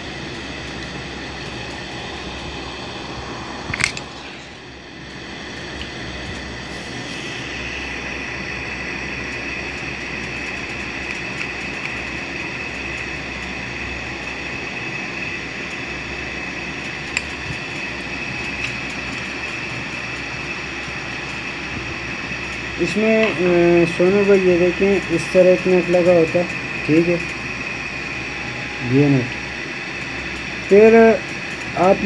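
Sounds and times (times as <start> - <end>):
electric motor whirring: 0.0 - 32.0.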